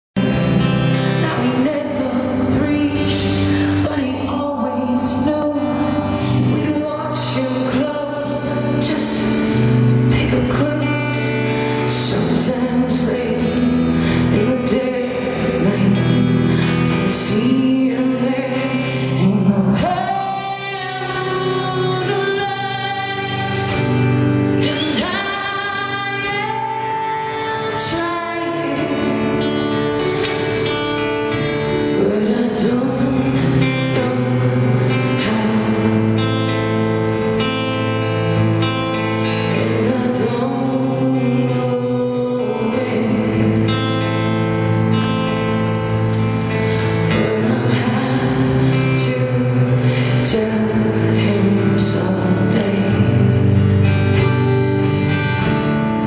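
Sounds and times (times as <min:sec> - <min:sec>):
woman singing: 0:00.2 - 0:56.0.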